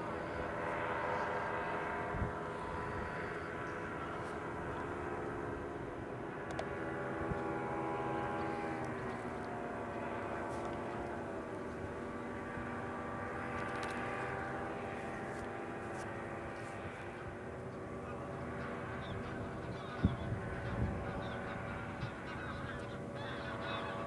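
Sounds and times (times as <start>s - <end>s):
paramotor engines droning overhead: 0.0s - 24.0s.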